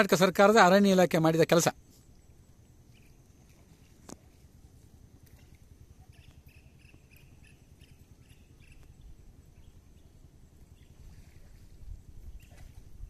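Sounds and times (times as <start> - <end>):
steady low rumble: 1.7 - 13.0.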